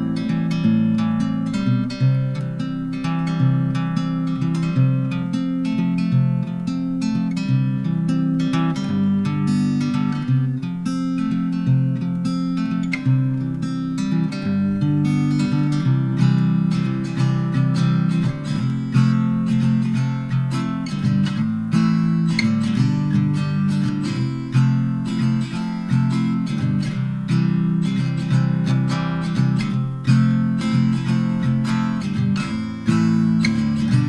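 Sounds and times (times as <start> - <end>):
plucked acoustic guitar: 0.0 - 34.0.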